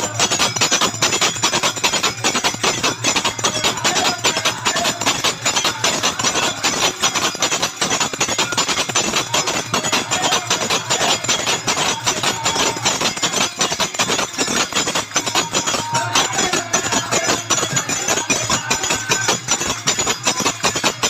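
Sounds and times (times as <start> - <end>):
drum strokes: 0.0 - 21.0.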